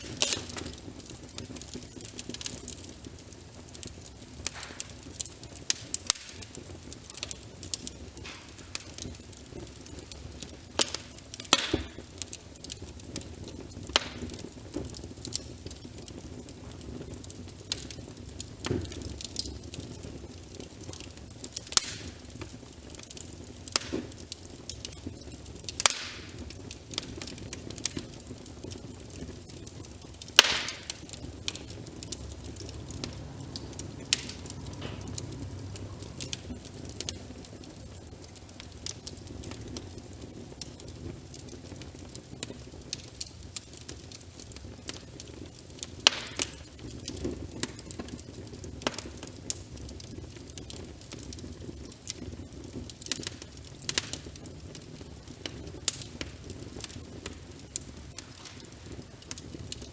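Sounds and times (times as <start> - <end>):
wood fire crackling and popping: 0.0 - 59.9
rain on a window: 1.3 - 59.9.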